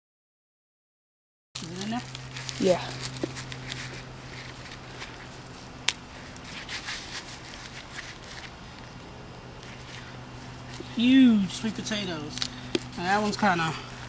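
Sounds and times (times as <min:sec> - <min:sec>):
soil rustling and crunching: 0:01.6 - 0:14.0.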